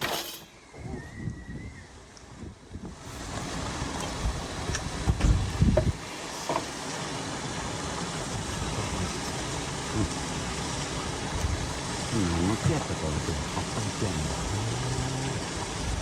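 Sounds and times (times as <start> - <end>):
strong wind blowing: 0.7 - 6.0, 8.1 - 16.0
wind gusts thumping on microphone: 0.7 - 16.0.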